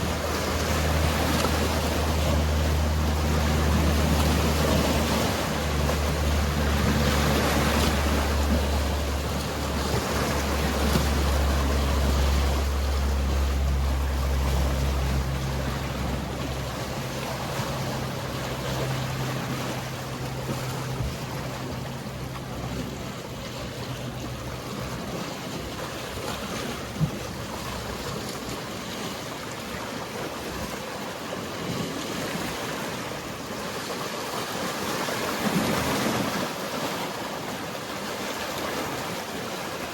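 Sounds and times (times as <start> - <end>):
boat engine drone: 0.0 - 39.9
sea waves washing: 0.0 - 39.9.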